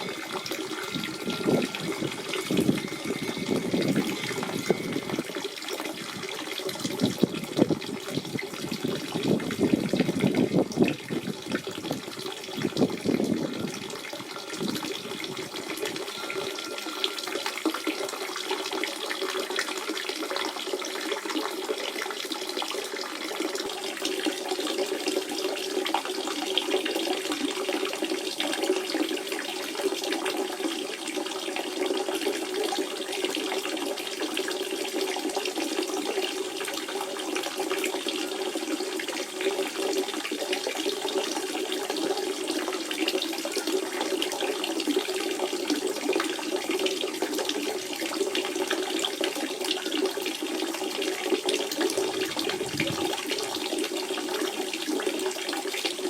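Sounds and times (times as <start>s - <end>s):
spring water gurgling: 0.0s - 56.0s.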